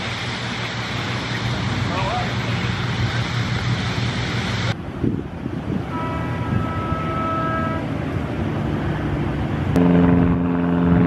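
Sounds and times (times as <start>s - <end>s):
streetcar rumble on rails: 0.0s - 11.0s.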